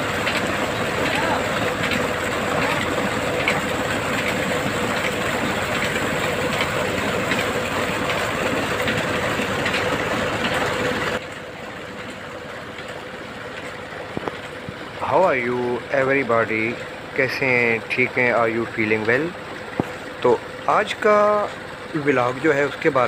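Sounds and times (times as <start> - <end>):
engine humming: 0.0 - 23.0
water stream splashing into tank: 0.0 - 23.0.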